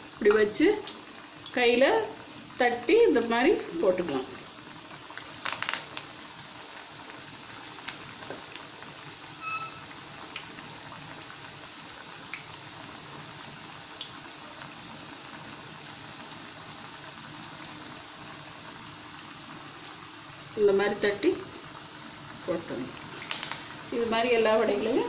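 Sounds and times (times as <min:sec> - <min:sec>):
fritters sizzling in hot oil: 0:00.0 - 0:25.0.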